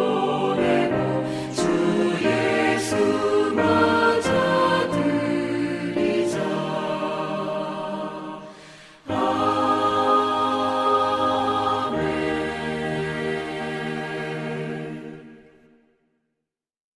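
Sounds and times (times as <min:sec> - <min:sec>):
choir singing a hymn: 0:00.0 - 0:15.6.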